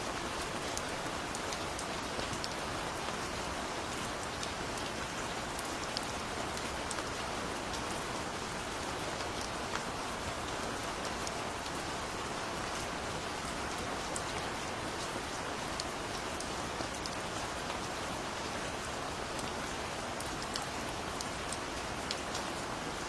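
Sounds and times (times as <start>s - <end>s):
gentle rain falling: 0.0s - 23.0s.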